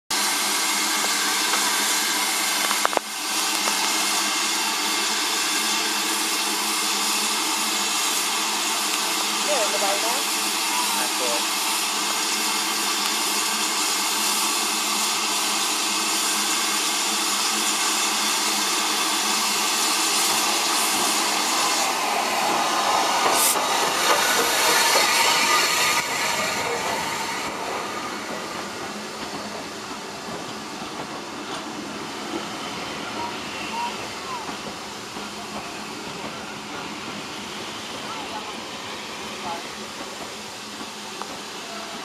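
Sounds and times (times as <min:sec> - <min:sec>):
steam hissing from locomotive: 0:00.1 - 0:42.0
steam train running past: 0:00.1 - 0:42.0.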